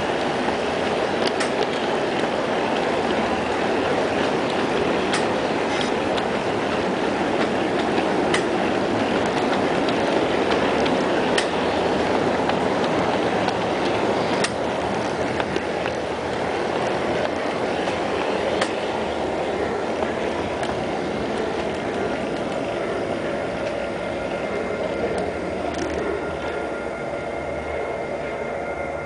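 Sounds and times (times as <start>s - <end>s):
model train rumbling on track: 0.0s - 29.0s
sharp track clicks: 0.4s - 23.8s, 25.0s - 26.5s.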